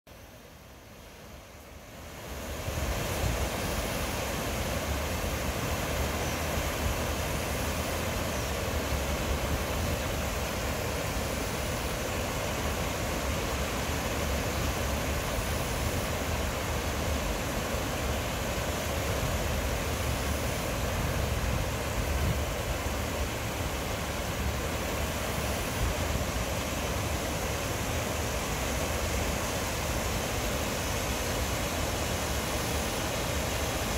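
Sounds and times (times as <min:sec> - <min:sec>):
water rushing over weir: 0:00.2 - 0:33.9.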